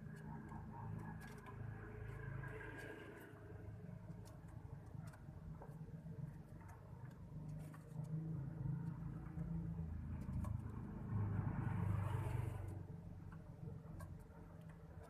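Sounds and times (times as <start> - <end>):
motor vehicle rumble passing: 0.0 - 5.1, 5.8 - 15.0.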